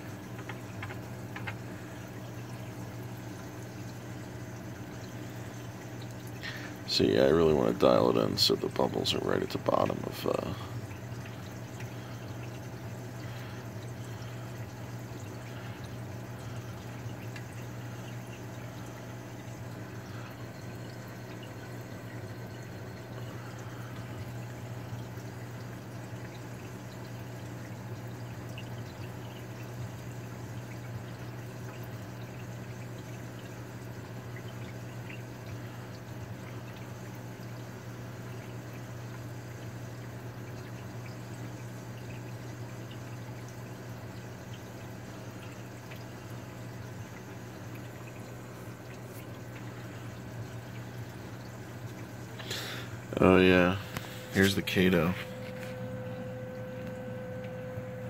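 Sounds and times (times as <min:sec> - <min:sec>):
constant low hum: 0:00.0 - 0:58.0
water trickling and splashing: 0:00.0 - 0:58.0.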